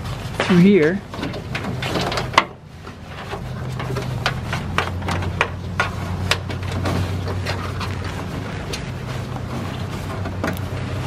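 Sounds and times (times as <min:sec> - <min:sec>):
cable clicks and rustles: 0:00.0 - 0:11.0
steady low hum: 0:00.0 - 0:11.0.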